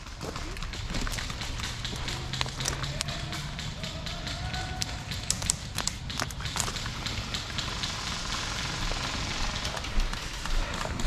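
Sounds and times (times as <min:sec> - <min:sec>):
sharp clicks: 0:00.0 - 0:11.0.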